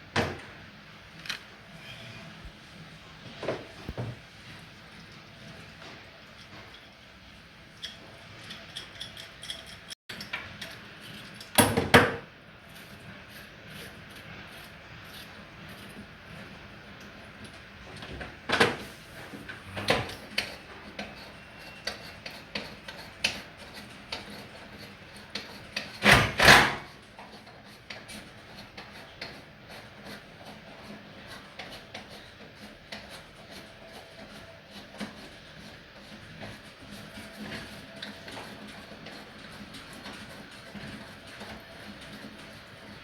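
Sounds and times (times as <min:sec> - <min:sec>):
tools and parts clicking and scraping: 0:07.7 - 0:12.0, 0:12.6 - 0:43.0.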